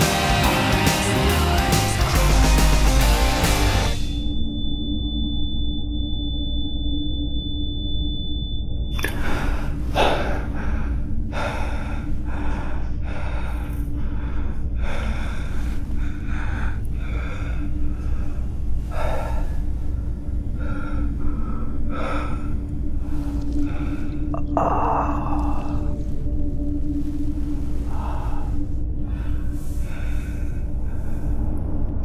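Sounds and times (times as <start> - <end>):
low steady drone: 0.0 - 32.0.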